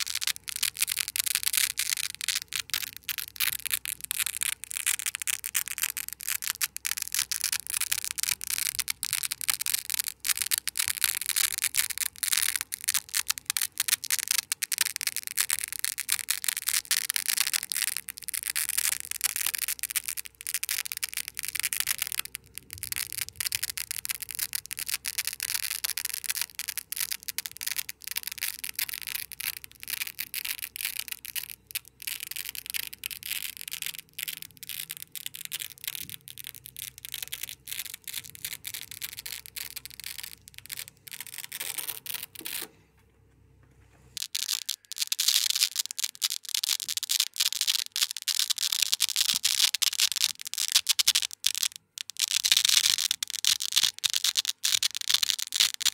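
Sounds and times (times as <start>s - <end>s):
velcro peeling crackle: 0.0s - 42.8s, 44.1s - 55.9s.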